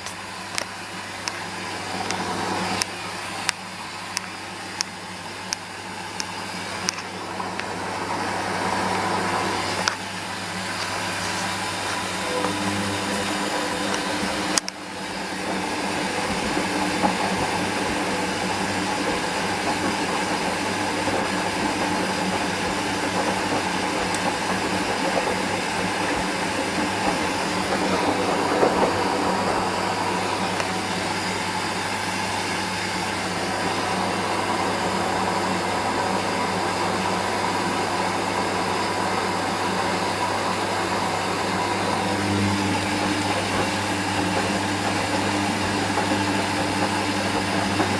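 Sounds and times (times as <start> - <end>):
washing machine motor hum: 0.0 - 47.9
washing machine whooshing: 0.0 - 47.9.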